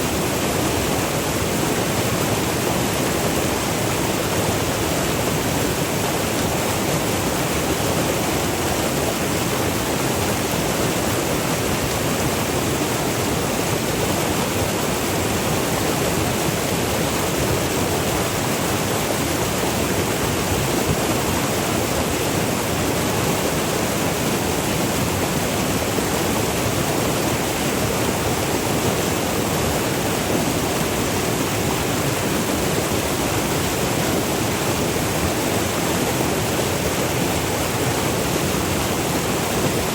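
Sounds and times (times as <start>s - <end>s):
river rushing over waterfalls: 0.0s - 39.9s.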